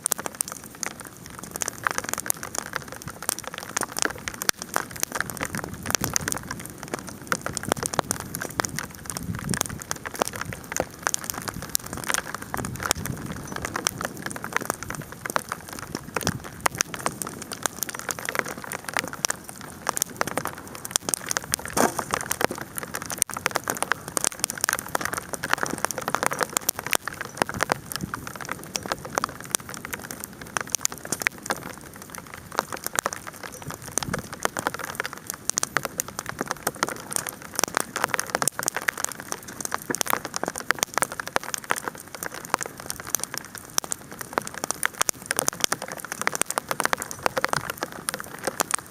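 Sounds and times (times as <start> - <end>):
bonfire crackling and popping: 0.0 - 48.9.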